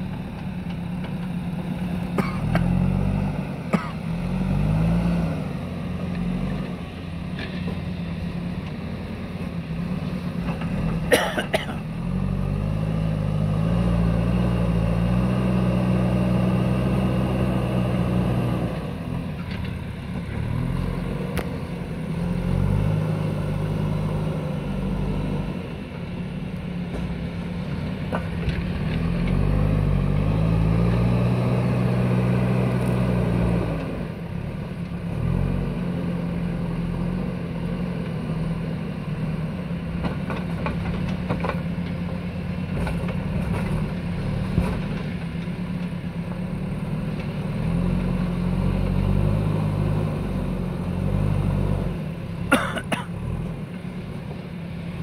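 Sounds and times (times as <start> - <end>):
diesel engine revving under load: 0.0 - 55.0.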